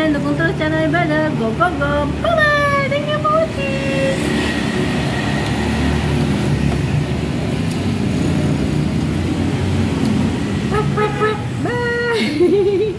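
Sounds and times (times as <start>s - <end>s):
road traffic rumble: 0.0s - 12.9s.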